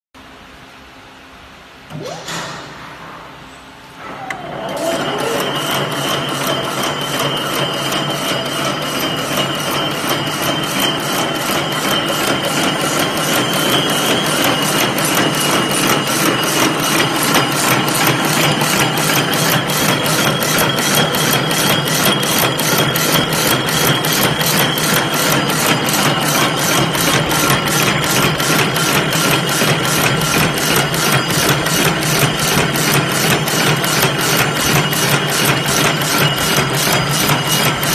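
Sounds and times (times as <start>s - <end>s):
machine mechanical clatter: 1.9s - 37.9s.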